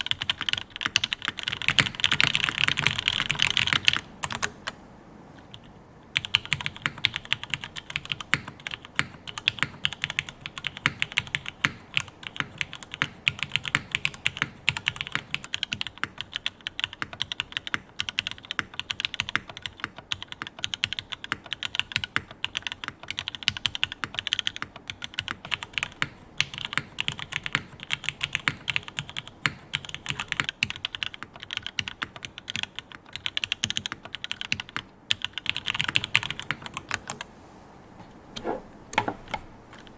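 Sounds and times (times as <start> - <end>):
fast typing on mechanical keyboard: 0.0 - 4.6, 5.5 - 37.2.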